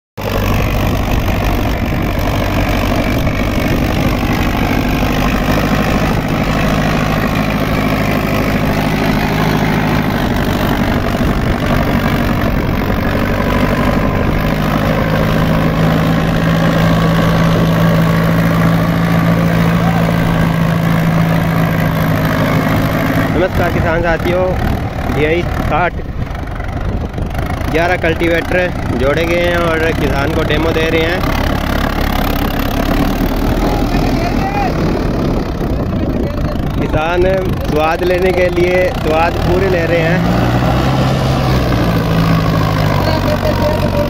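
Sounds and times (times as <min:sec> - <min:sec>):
tractor diesel engine under load: 0:00.2 - 0:44.0.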